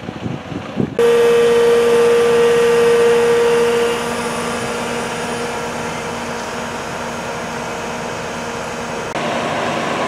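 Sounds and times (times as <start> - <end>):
hydraulic machine hum with whine: 1.0 - 10.0.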